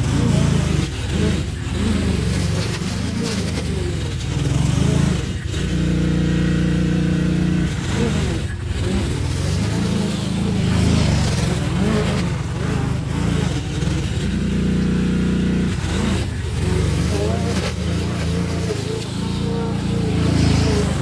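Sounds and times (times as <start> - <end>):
small petrol engine running: 0.0 - 21.0.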